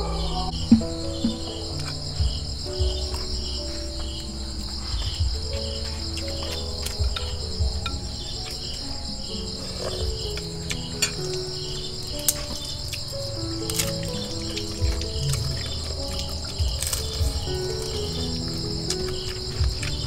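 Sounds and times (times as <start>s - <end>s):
crickets trilling: 0.0s - 20.0s
soft background music: 0.0s - 20.0s.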